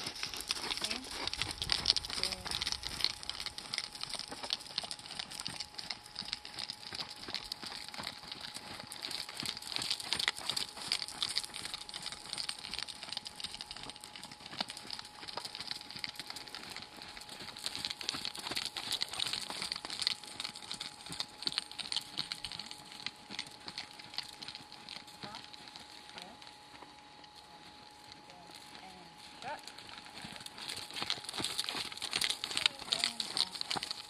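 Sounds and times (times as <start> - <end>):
hoofbeats on sand: 0.0 - 26.7, 27.4 - 34.0
dense crackle: 0.0 - 34.0.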